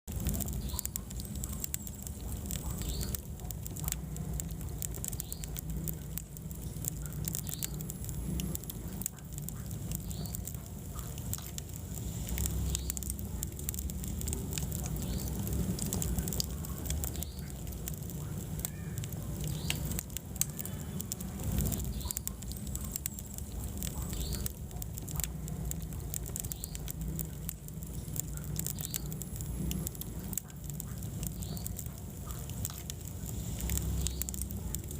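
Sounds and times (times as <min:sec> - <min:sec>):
low rumble of flames: 0:00.0 - 0:34.9
wood fire crackling: 0:00.0 - 0:34.9.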